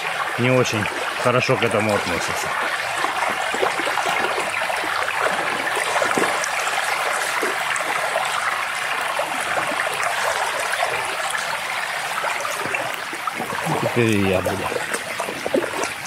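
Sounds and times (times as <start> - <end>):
creek running: 0.0 - 16.0
dogs splashing through water: 0.0 - 16.0.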